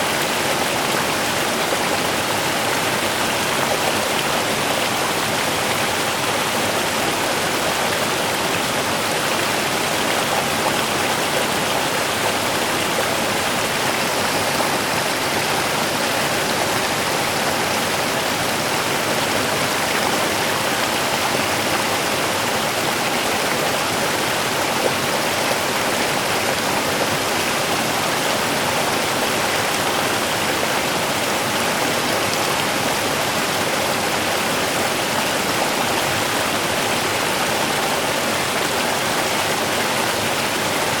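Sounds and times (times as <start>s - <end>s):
rushing water: 0.0s - 41.0s.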